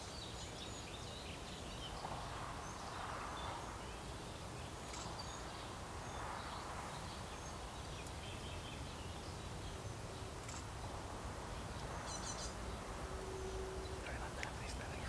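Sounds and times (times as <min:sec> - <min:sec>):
low rumble and hiss: 0:00.0 - 0:15.0
small birds chirping: 0:00.0 - 0:15.0.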